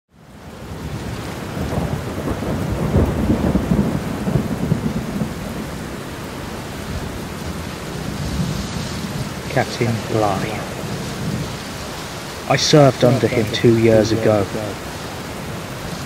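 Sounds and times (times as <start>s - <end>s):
heavy rain: 0.1s - 16.0s
thunder rumble: 0.4s - 16.0s.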